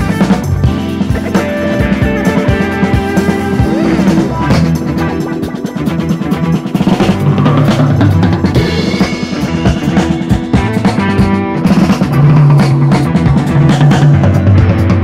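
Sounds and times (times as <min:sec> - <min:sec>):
music with drum-kit beat: 0:00.0 - 0:15.0.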